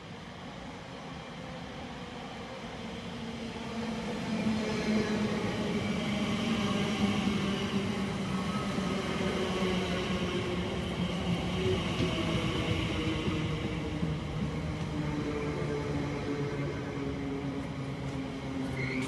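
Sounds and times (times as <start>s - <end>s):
train hum and whine: 0.0s - 19.0s.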